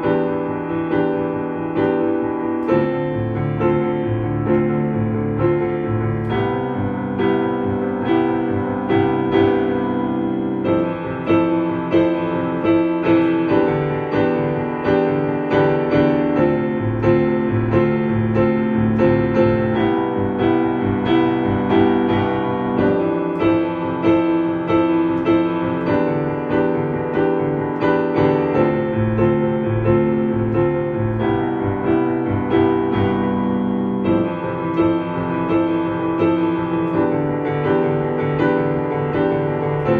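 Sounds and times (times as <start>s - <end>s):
piano piece: 0.0s - 39.9s.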